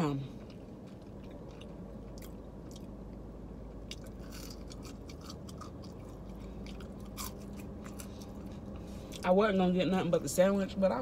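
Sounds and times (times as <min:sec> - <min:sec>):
low steady hum: 0:00.0 - 0:11.0
person chewing fries crunching: 0:00.4 - 0:09.2.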